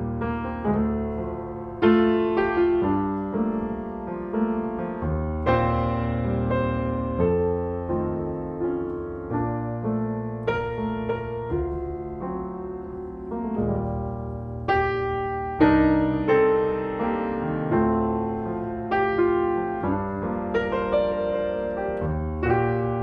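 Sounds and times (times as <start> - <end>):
piano playing slow chords: 0.0 - 23.0.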